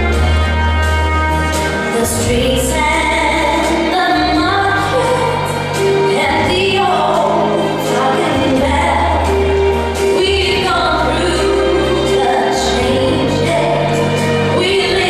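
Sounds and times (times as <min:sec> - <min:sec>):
slow waltz music: 0:00.0 - 0:15.0
steady bass line: 0:00.0 - 0:15.0
person singing: 0:01.8 - 0:15.0.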